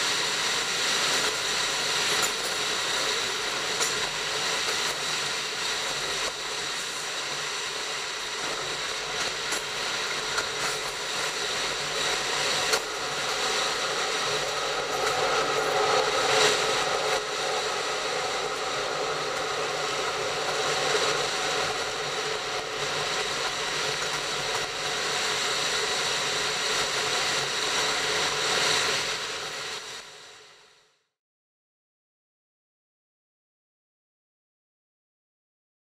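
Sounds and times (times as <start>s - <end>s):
train mechanical drone: 0.0s - 30.9s.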